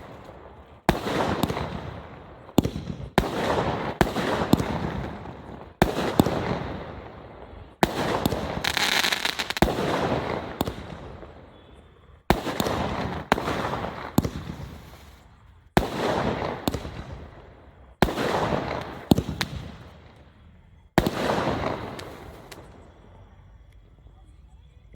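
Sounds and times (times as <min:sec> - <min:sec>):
firework crackling: 0:00.0 - 0:11.5, 0:12.3 - 0:23.6
firework bangs: 0:00.0 - 0:23.6.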